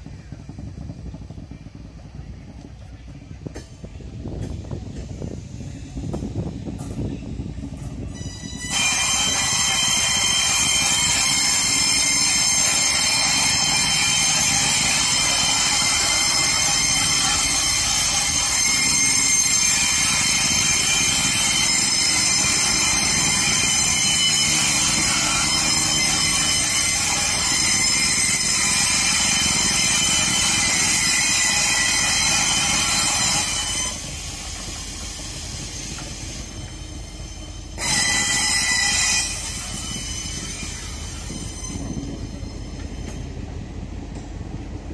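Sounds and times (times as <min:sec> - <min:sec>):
train wheels squealing on rails: 0:00.0 - 0:44.4
low rumble of rolling coaches: 0:00.0 - 0:44.9.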